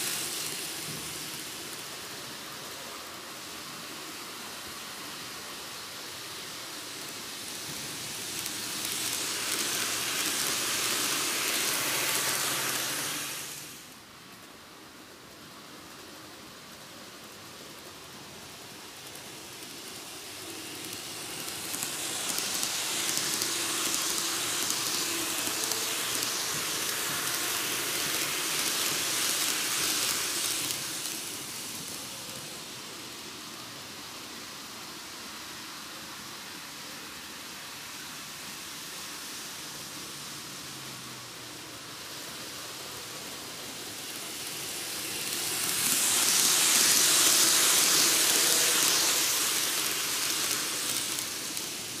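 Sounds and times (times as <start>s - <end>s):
model train wheels hissing on rail: 0.0s - 52.0s.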